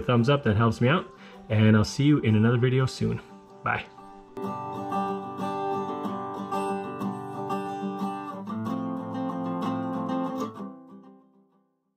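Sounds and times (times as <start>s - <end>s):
strummed background music: 0.0s - 11.7s.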